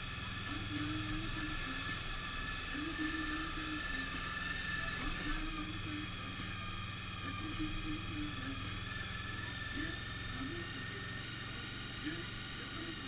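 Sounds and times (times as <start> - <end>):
motorcycle engine humming: 0.0 - 13.0.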